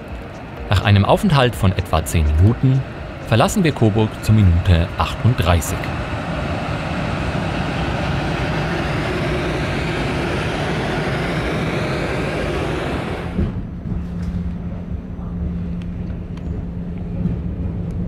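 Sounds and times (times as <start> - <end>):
electric locomotive passing: 0.0 - 14.9
low hum inside moving train: 0.0 - 18.0.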